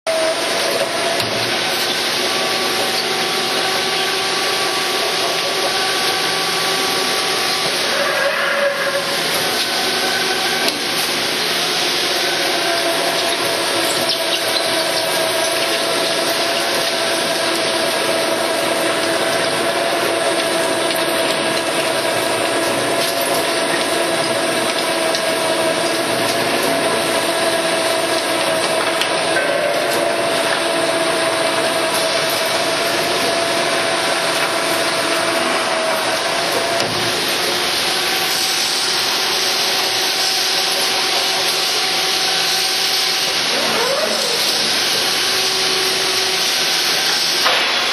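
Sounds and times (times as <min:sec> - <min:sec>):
drill whine: 0:00.1 - 0:47.4
coolant hiss: 0:00.1 - 0:47.9
drilling machine running: 0:00.1 - 0:47.9.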